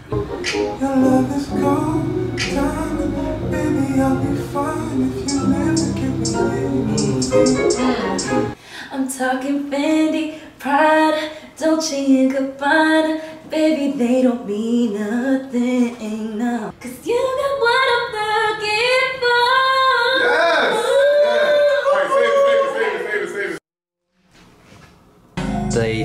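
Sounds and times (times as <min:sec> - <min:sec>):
woman singing: 0:00.8 - 0:21.8.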